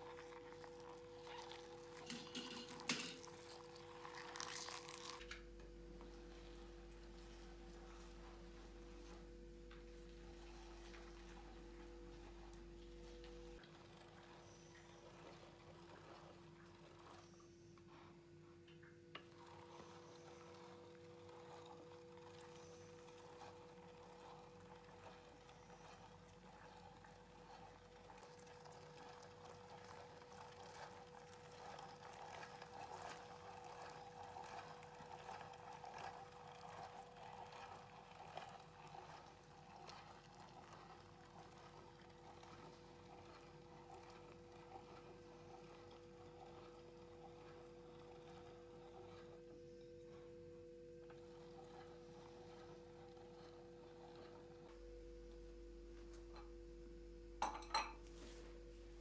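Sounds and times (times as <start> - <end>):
meat grinder squelching: 0.0 - 5.4, 10.0 - 18.2, 19.2 - 55.5
faint hum: 0.0 - 59.0.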